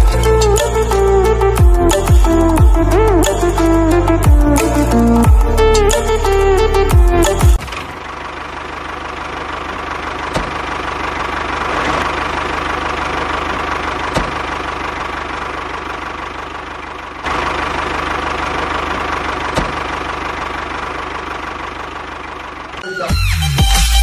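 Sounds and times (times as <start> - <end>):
diesel tractor engine knocking: 0.0 - 6.1, 6.8 - 22.8.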